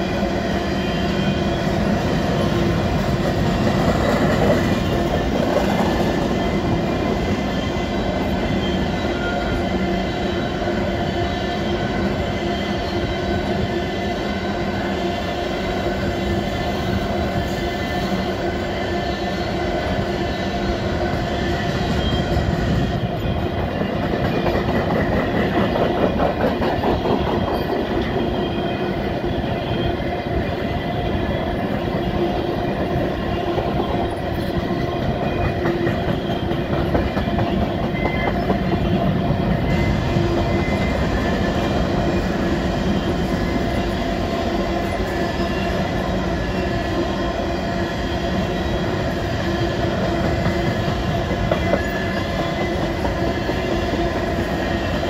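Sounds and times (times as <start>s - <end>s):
freight train rolling past: 0.0s - 55.0s.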